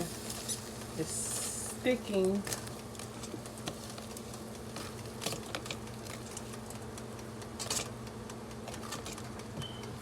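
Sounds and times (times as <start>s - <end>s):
utensil scraping air fryer basket: 0.0s - 9.8s
steady low hum: 0.0s - 10.0s.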